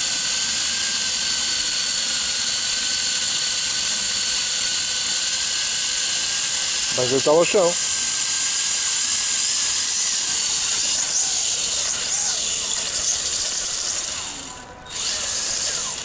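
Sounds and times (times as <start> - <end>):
quadcopter propellers whirring: 0.0 - 16.0.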